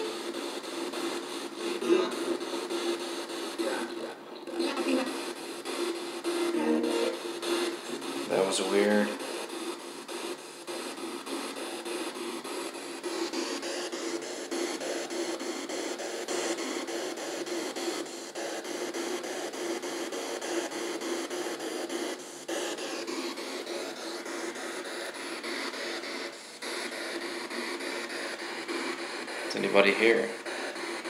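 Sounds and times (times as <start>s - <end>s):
radio static sweeping: 0.0s - 31.0s.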